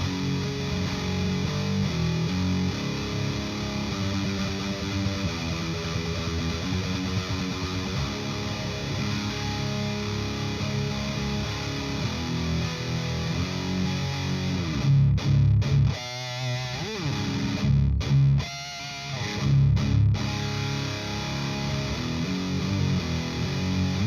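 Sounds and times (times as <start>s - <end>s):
distorted electric guitar riff: 0.0s - 24.0s.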